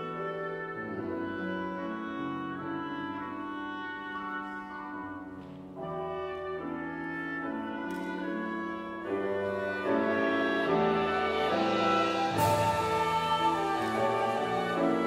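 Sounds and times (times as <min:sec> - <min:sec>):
clarinet: 0:00.0 - 0:15.0
flute: 0:00.0 - 0:15.0
oboe: 0:00.0 - 0:15.0
piano: 0:00.0 - 0:15.0.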